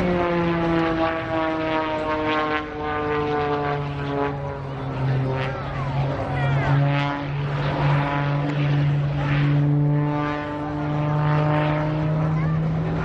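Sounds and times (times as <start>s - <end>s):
propeller biplane droning overhead: 0.0s - 13.0s.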